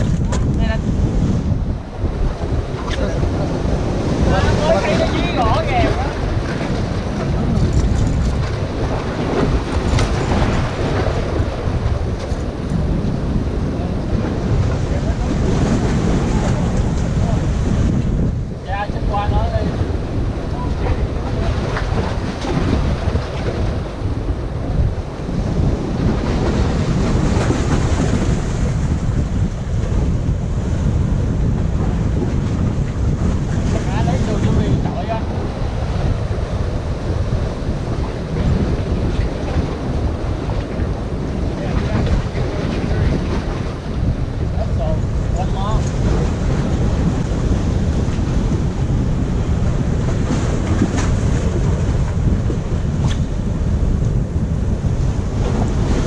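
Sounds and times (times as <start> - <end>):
surf washing against rocks: 0.0 - 56.0
wind buffeting microphone: 0.0 - 56.0.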